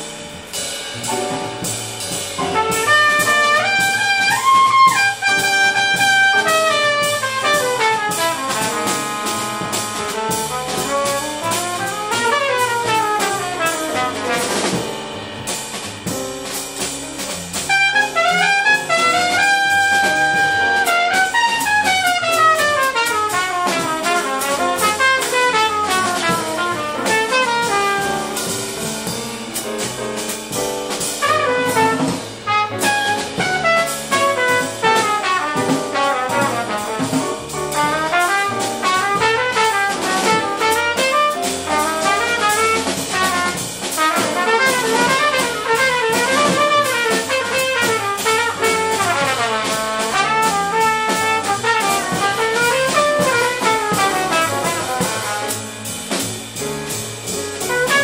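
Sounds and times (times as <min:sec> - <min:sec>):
double bass: 0:00.0 - 0:58.0
drum kit: 0:00.0 - 0:58.0
piano: 0:00.0 - 0:58.0
trumpet solo: 0:02.4 - 0:15.0, 0:17.6 - 0:28.9, 0:31.2 - 0:55.8, 0:57.6 - 0:58.0.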